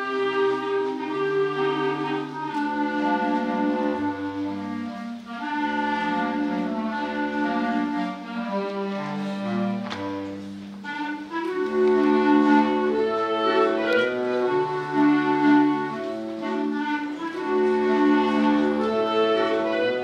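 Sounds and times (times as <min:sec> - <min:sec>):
clarinet ensemble playing a waltz: 0:00.0 - 0:20.0.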